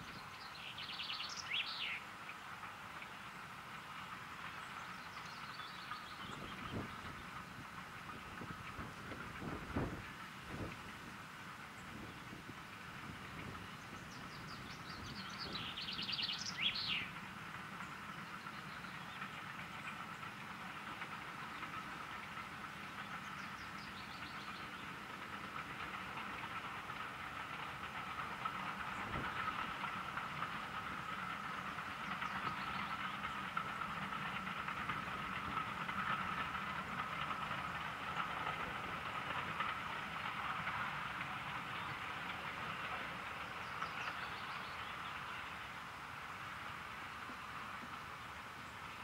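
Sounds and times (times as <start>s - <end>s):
steam train running on rails: 0.0s - 49.0s.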